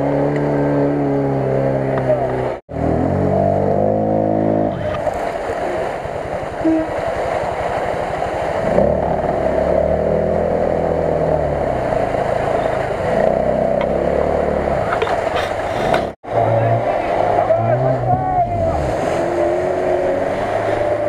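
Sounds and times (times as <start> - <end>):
quad bike engine revving: 0.0 - 5.1, 8.5 - 21.0.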